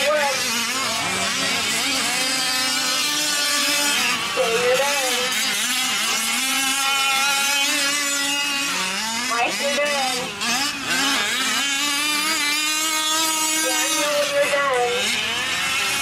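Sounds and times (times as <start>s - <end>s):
rc truck engines racing: 0.0s - 16.0s.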